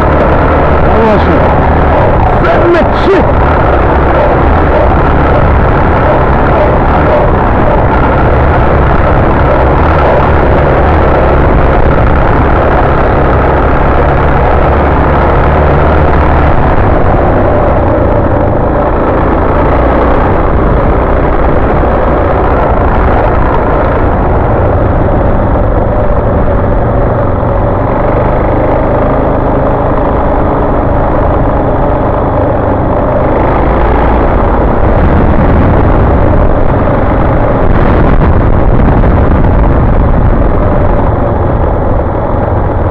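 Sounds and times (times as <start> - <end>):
motorcycle engine running: 0.0 - 42.9
wind rumble on microphone: 0.0 - 42.9.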